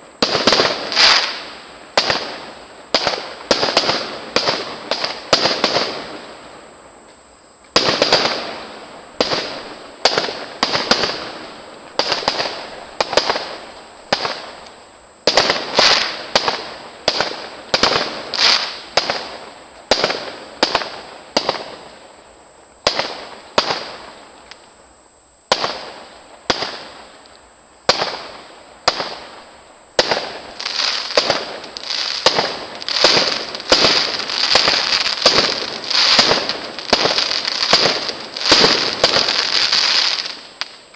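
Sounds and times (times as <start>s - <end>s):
fireworks bursting with bangs: 0.0s - 24.8s, 25.4s - 40.9s.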